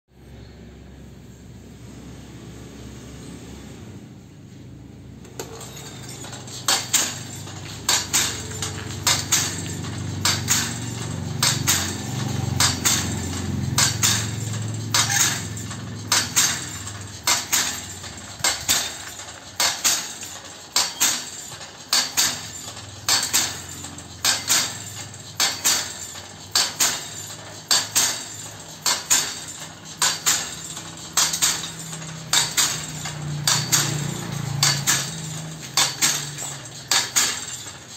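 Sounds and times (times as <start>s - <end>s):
steel mechanism clanking: 5.2s - 37.9s.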